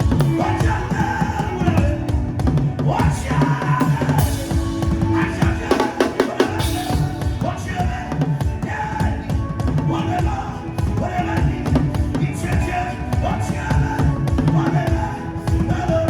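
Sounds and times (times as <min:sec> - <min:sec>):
fast dense drumming: 0:00.0 - 0:16.0.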